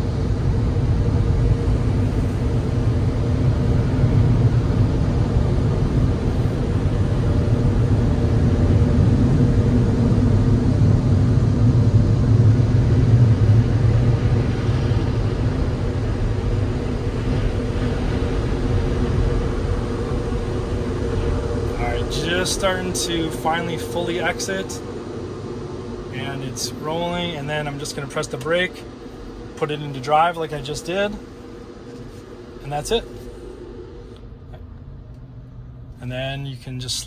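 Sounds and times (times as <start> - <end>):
car wash machinery rumbling: 0.0 - 37.0.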